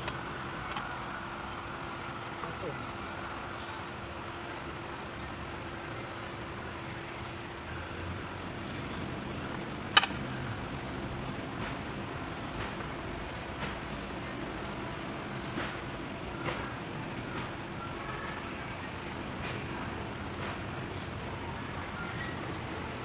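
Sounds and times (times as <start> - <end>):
low background hum and rumble: 0.0 - 23.0.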